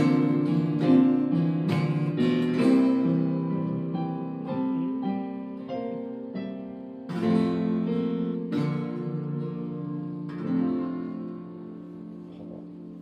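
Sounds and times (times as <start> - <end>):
acoustic guitar strumming: 0.0 - 13.0
electric keyboard: 0.0 - 13.0.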